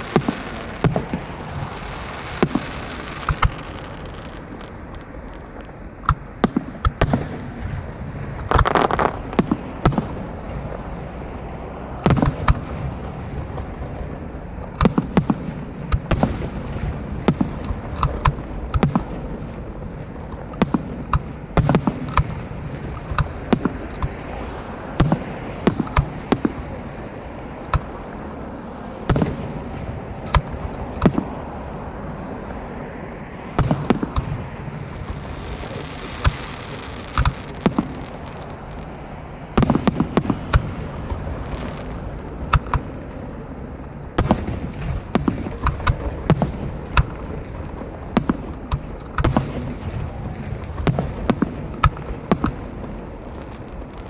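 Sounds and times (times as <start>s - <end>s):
firework shells booming: 0.0s - 54.0s
rumble of bursts and echoes: 0.0s - 54.0s.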